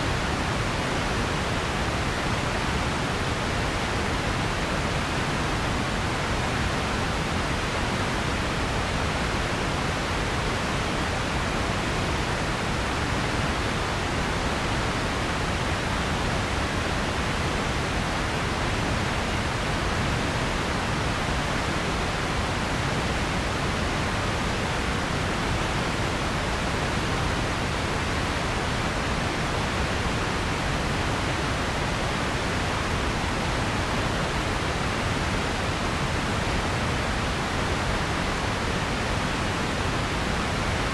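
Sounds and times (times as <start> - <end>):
steady noise hiss: 0.0 - 40.9.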